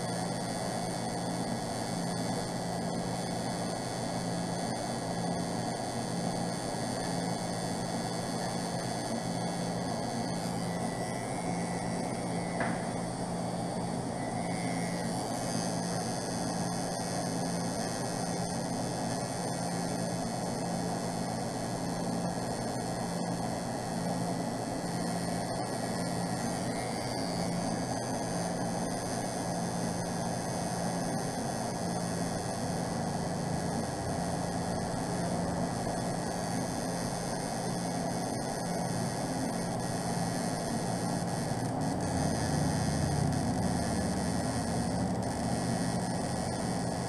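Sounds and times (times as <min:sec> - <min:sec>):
tattoo machine buzzing: 0:00.0 - 0:47.0.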